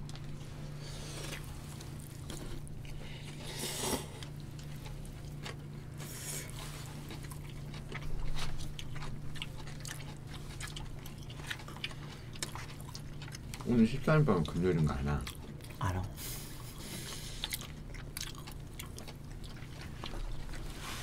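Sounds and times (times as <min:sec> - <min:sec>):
people chewing: 0:00.0 - 0:21.0
steady low hum: 0:00.0 - 0:21.0.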